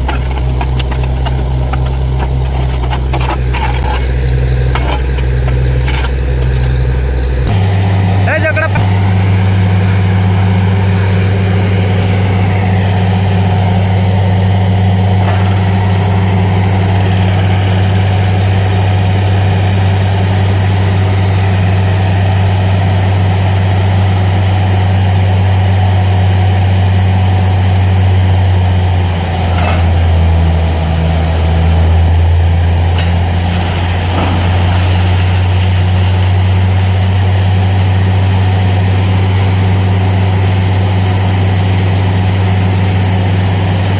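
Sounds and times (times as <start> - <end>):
drilling rig engine humming: 0.0 - 43.9.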